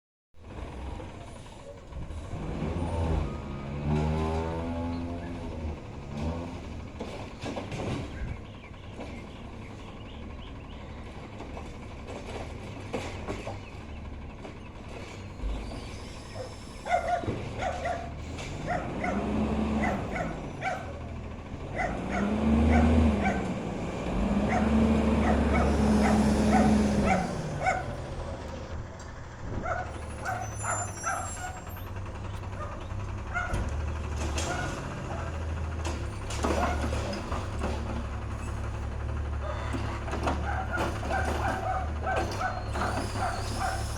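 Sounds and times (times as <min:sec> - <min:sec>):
vehicle engine running: 0:00.4 - 0:43.9.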